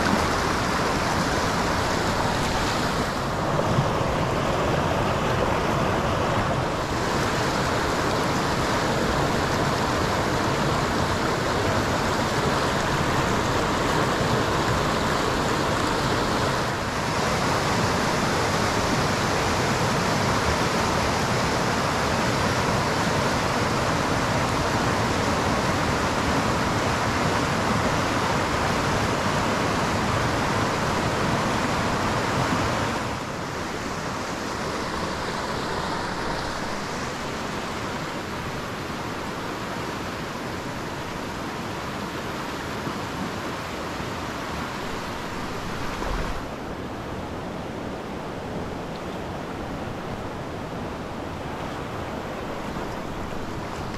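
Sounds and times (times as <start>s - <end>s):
creek water rushing: 0.0s - 53.9s.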